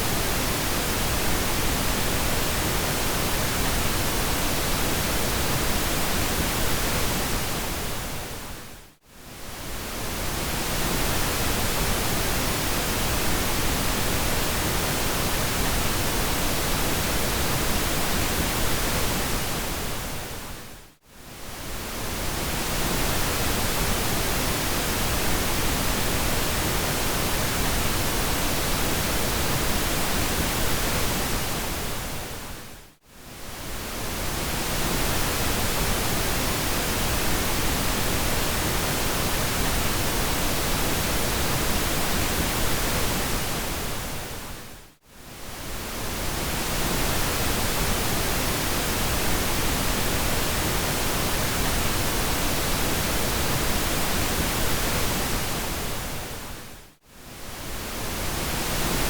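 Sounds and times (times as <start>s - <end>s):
pink noise hiss: 9.2s - 59.0s.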